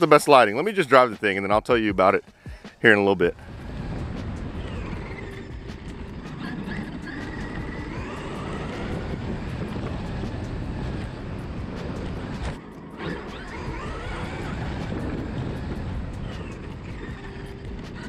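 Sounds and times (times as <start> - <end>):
wind on microphone: 3.2 - 18.0
electric motor whine: 3.3 - 18.0.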